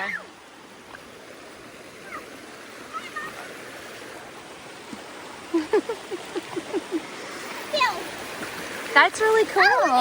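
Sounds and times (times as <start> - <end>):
river water running: 0.0 - 10.0.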